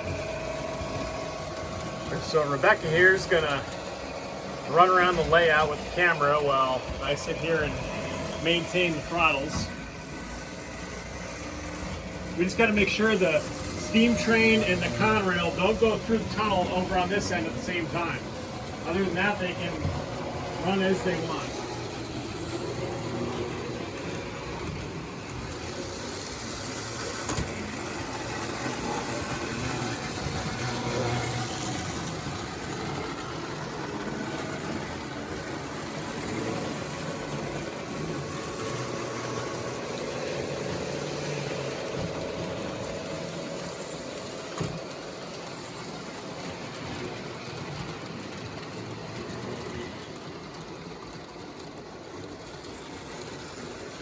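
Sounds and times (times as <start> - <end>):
model train motors humming: 0.0 - 54.0
rail clicks: 0.0 - 54.0.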